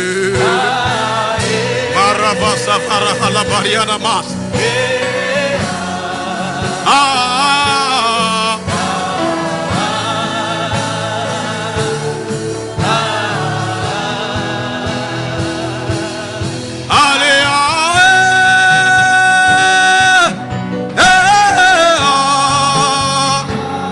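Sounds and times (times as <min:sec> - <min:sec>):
instrumental accompaniment: 0:00.0 - 0:23.9
person singing gospel: 0:00.0 - 0:23.9.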